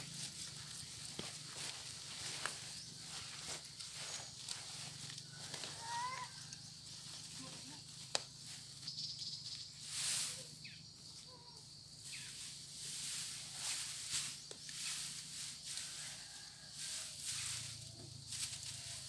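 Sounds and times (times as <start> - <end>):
dry grass thatch rustling: 0.0 - 11.3, 12.0 - 19.0.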